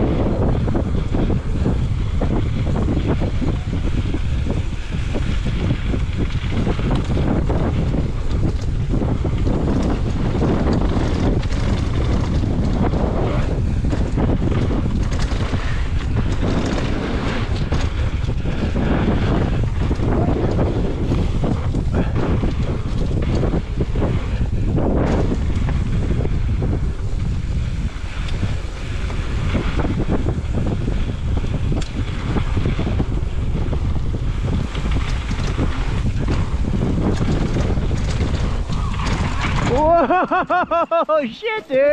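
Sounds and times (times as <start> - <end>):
bike clicking and rattling: 0.0 - 41.2
low tyre rumble: 0.0 - 41.9
wind rushing over microphone: 0.0 - 41.9.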